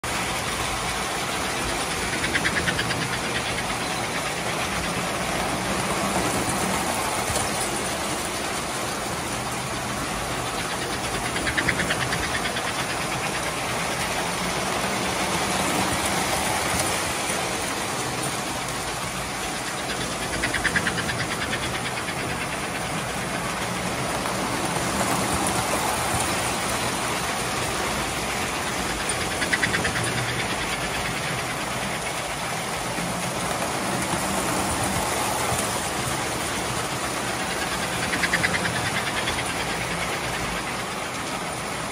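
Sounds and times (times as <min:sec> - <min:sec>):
toy train motor hum: 0:00.0 - 0:41.9
wheels clicking over rail joints: 0:00.0 - 0:41.9.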